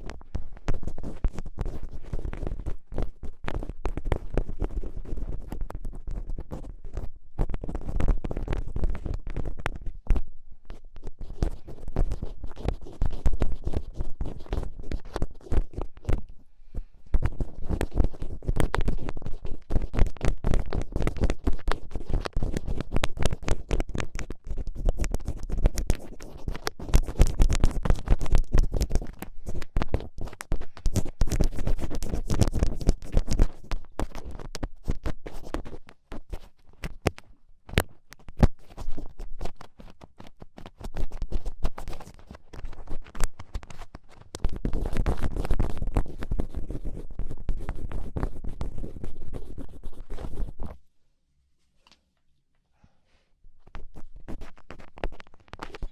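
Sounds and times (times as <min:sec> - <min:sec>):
ear pick scratching in ear: 0:00.0 - 0:16.3, 0:17.1 - 0:37.1, 0:37.8 - 0:50.8, 0:53.6 - 0:55.9.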